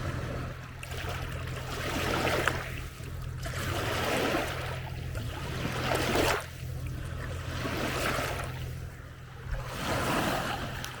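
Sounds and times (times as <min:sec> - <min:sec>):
low rumble: 0:00.0 - 0:11.0
waves lapping on beach: 0:00.0 - 0:11.0.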